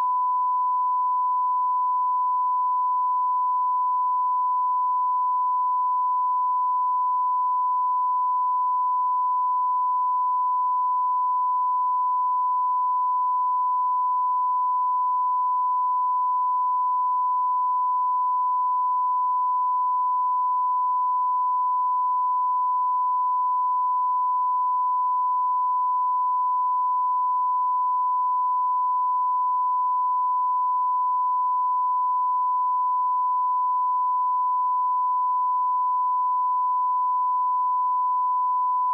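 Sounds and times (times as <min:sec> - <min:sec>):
steady test tone beep: 0:00.0 - 0:38.9.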